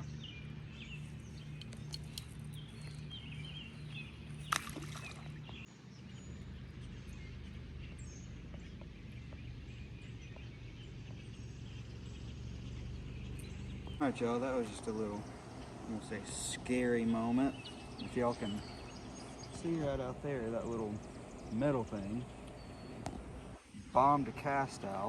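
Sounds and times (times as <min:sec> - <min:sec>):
faint bird chirps: 0:00.0 - 0:24.3
steady low hum: 0:00.0 - 0:25.0.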